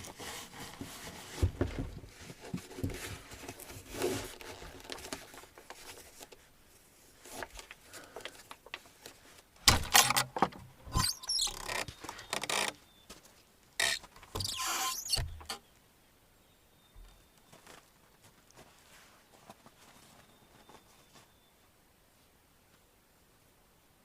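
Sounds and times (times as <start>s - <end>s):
rustling and scraping: 0.0s - 15.6s, 17.1s - 21.4s.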